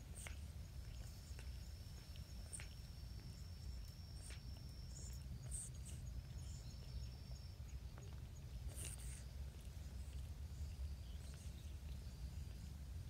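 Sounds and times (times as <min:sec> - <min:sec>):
faint ticks and chirps: 0:00.0 - 0:13.0
low background rumble: 0:00.0 - 0:13.0.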